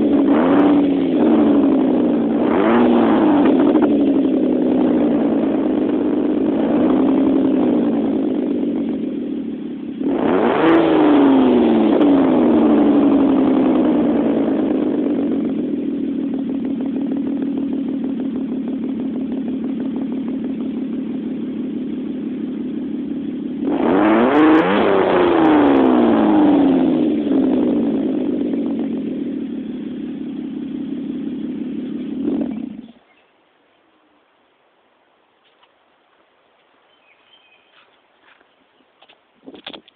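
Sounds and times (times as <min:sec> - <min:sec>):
car engine idling and revving: 0:00.0 - 0:33.2.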